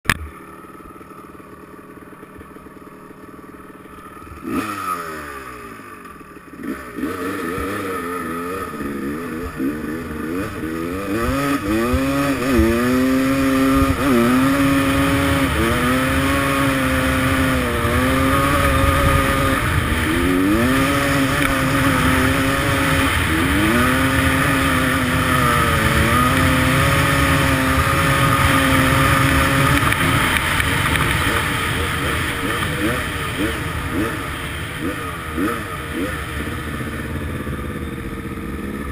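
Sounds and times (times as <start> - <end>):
dirt bike engine revving: 0.4 - 38.9.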